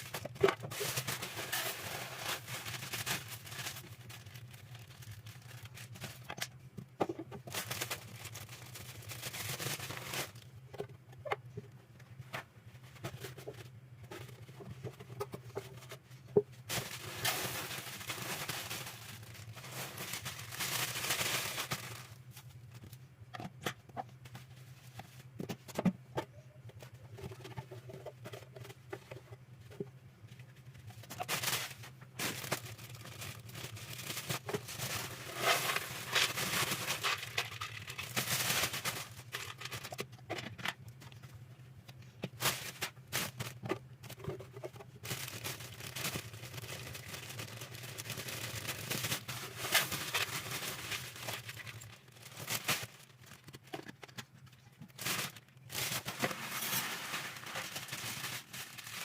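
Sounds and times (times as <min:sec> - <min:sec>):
rustling or pouring noise: 0:00.0 - 0:10.6, 0:12.2 - 0:23.1, 0:26.8 - 0:41.2, 0:42.0 - 0:59.0.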